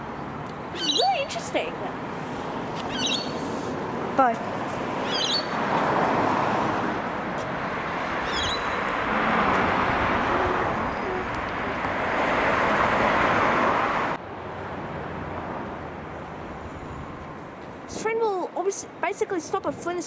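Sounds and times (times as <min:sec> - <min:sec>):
rushing vehicle noise: 0:00.0 - 0:17.9.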